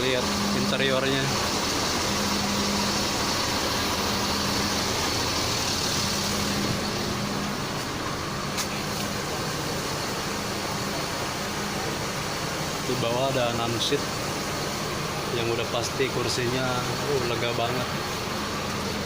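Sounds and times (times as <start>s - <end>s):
air conditioning running: 0.0s - 19.0s
bus engine idling: 0.0s - 19.0s.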